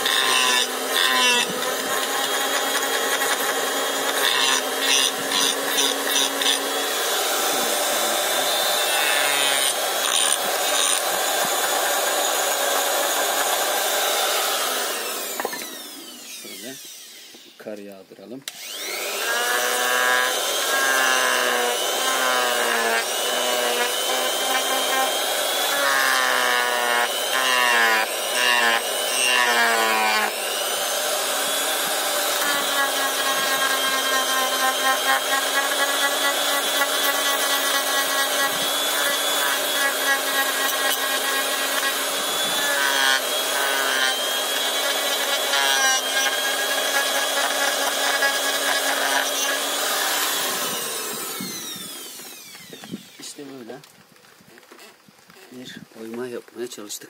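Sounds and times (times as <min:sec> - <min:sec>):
die grinder cutting wood: 0:00.0 - 0:56.2.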